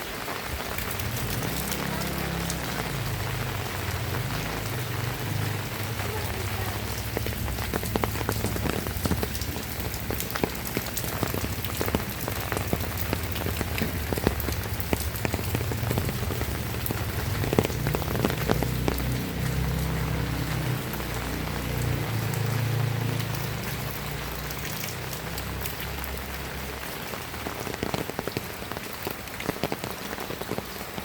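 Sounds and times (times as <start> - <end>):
close raindrop hits: 0.0 - 31.0
heavy rain falling: 0.0 - 31.0.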